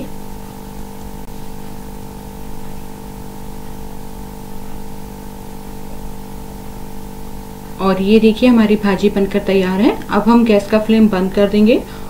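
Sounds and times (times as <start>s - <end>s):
hum of held tones: 0.0s - 12.0s.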